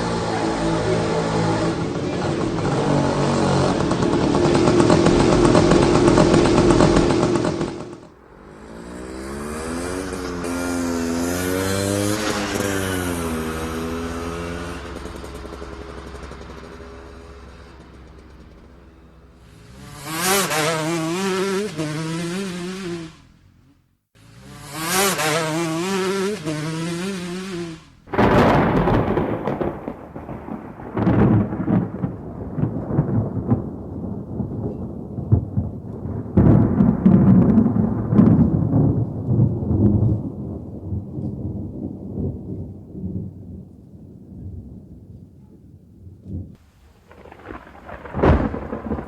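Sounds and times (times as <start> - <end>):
thunder rumbling and cracking: 0.0 - 22.5, 28.0 - 49.0.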